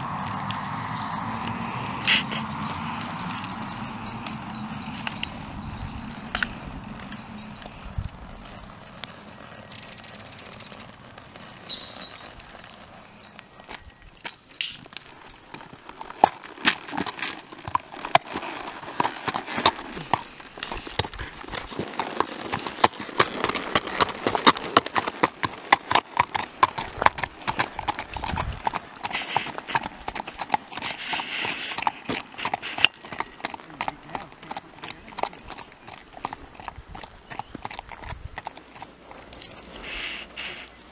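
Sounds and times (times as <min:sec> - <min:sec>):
horse hooves clip-clopping on road: 0:00.0 - 0:40.9.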